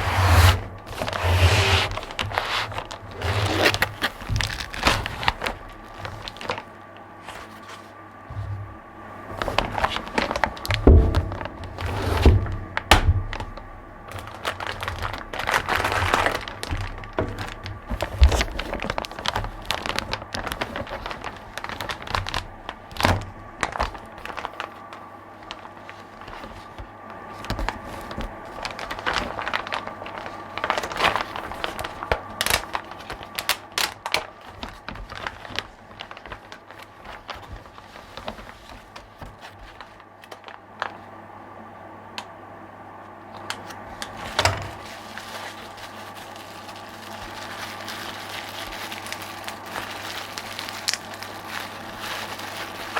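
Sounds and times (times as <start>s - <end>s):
cardboard rustling: 0.0s - 41.1s, 43.4s - 52.9s
plastic packaging crinkling: 0.0s - 41.2s, 43.3s - 52.9s
faint steady hum: 0.0s - 52.9s.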